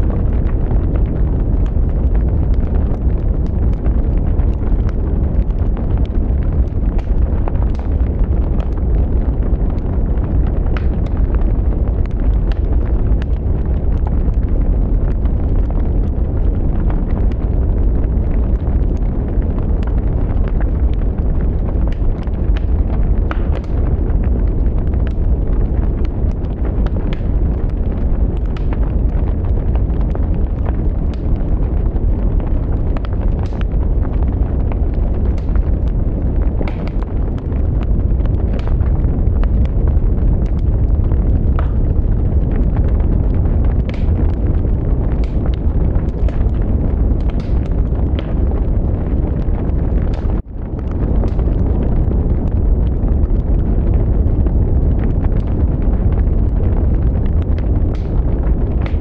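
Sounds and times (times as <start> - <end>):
burning sticks crackling and popping: 0.0 - 59.0
low rumble of flames: 0.0 - 59.0.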